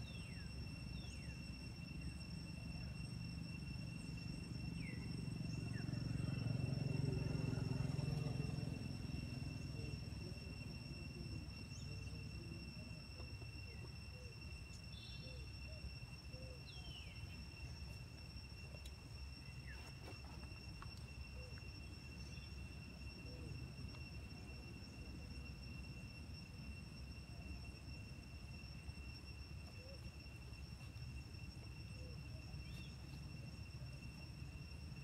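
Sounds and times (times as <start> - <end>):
high insect trill: 0.0 - 35.0.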